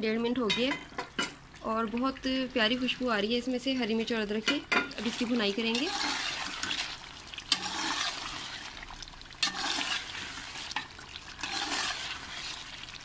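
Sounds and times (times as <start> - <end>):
sauce sizzling in a pot: 0.4 - 13.0.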